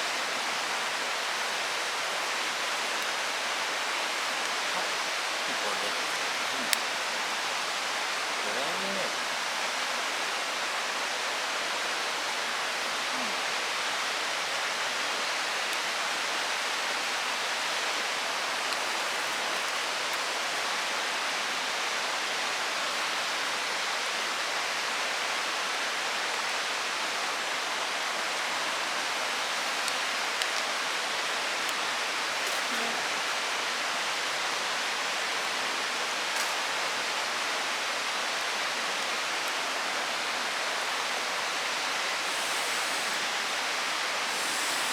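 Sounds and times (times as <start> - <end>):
stream flowing over rocks: 0.0 - 44.9.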